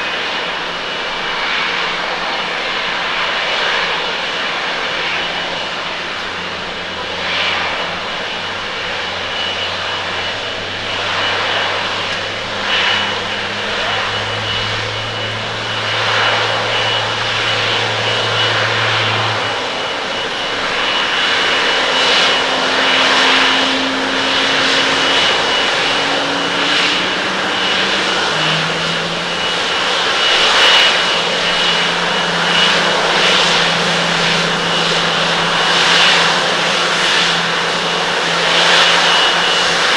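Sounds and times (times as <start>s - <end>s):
jet engines at taxi power: 0.0s - 39.9s.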